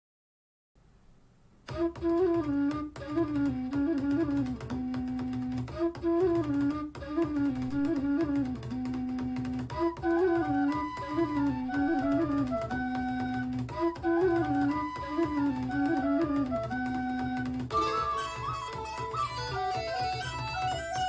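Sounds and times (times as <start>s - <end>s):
instrumental music through speaker: 1.7s - 21.0s.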